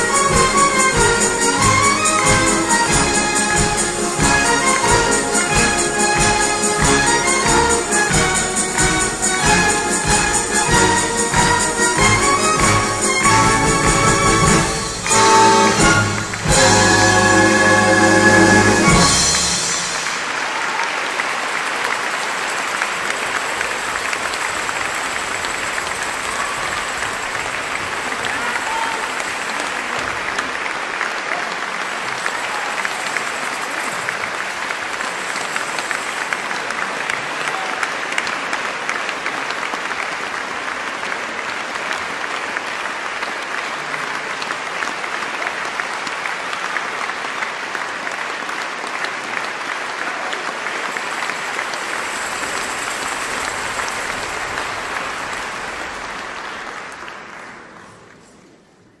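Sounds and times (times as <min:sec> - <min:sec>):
large audience applauding: 0:00.0 - 0:58.6.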